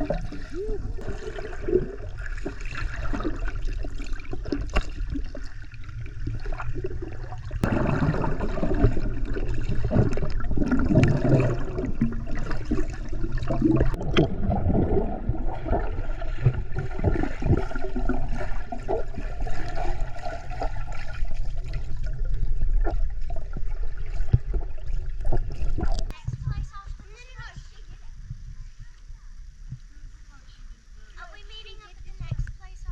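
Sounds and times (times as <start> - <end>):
water gurgling and sloshing: 0.0 - 32.9.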